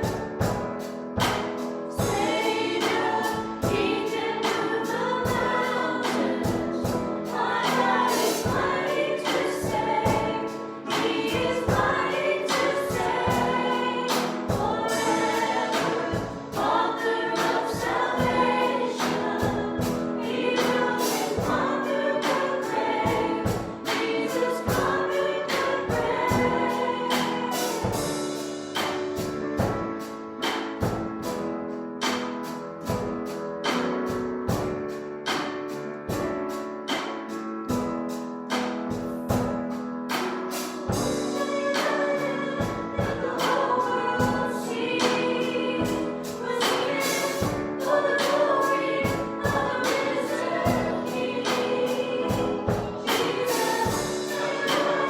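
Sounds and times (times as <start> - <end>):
group singing gospel song: 0.0 - 29.8, 40.2 - 55.0
band with drums: 0.0 - 55.0.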